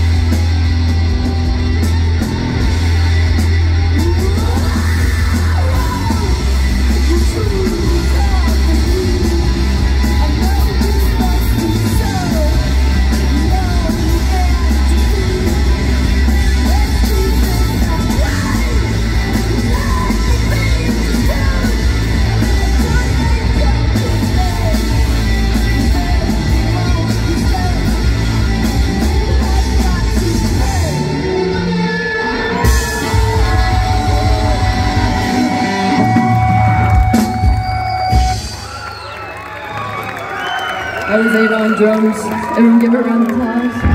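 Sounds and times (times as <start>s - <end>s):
drums: 0.0s - 43.9s
electric guitars: 0.0s - 43.9s.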